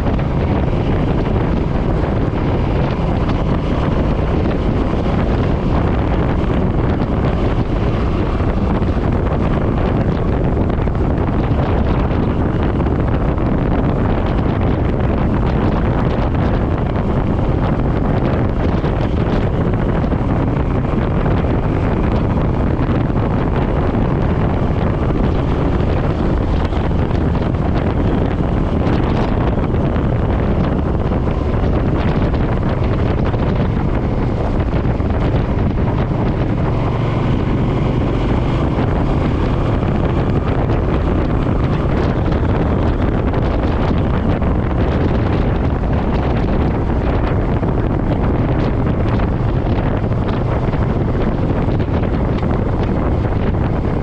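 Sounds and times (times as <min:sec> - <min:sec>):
motorcycle engine running: 0:00.0 - 0:54.0
road noise: 0:00.0 - 0:54.0
wind rushing on microphone: 0:00.0 - 0:54.0.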